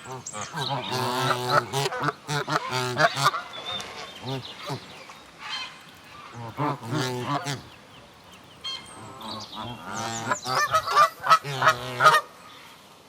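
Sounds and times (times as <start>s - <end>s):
geese honking: 0.0s - 7.8s, 8.6s - 12.3s.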